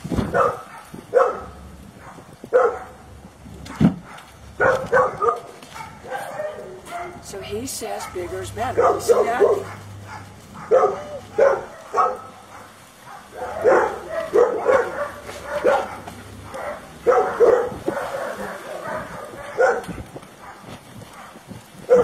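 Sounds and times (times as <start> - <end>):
dog barking and yipping: 0.2 - 3.0, 3.7 - 22.0.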